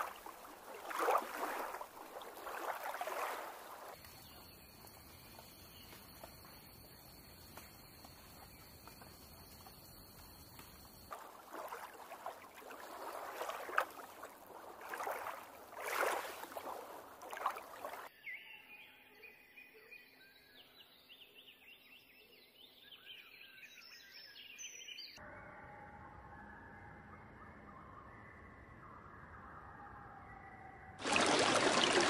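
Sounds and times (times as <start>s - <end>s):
birds chirping and twittering: 0.0s - 31.0s.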